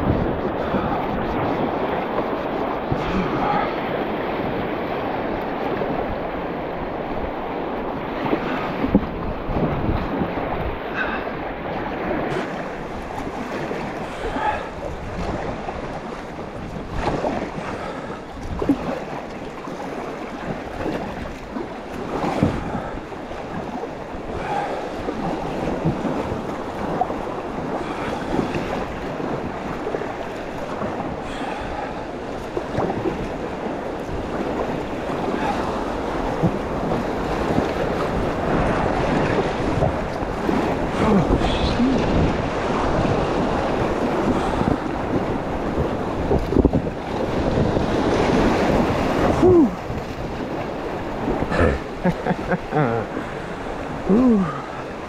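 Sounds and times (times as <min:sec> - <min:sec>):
river rapids rushing: 0:00.0 - 0:16.4, 0:24.0 - 0:55.0
water splashes: 0:00.0 - 0:55.0.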